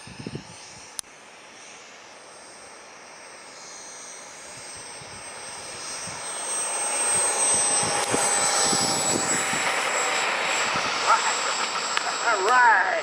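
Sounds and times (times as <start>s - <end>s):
jet turbine whine: 0.0s - 13.0s.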